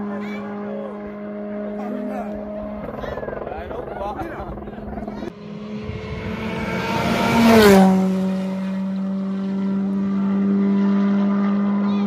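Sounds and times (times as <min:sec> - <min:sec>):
rally car passing at speed: 0:00.0 - 0:03.8, 0:05.0 - 0:12.0.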